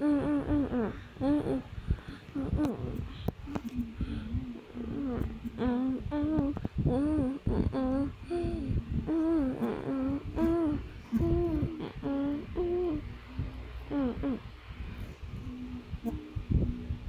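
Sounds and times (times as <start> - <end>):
person humming a tune: 0.0 - 17.0.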